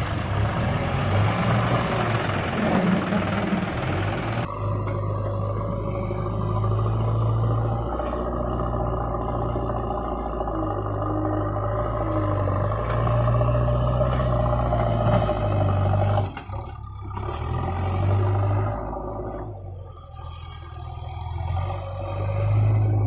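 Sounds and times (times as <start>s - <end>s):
diesel engine under load: 0.0s - 23.0s.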